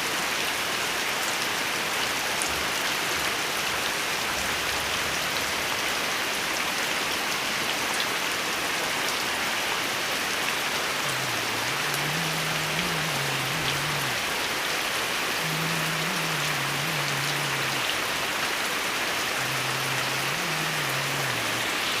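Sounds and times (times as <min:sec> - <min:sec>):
heavy rain pattering: 0:00.2 - 0:22.0.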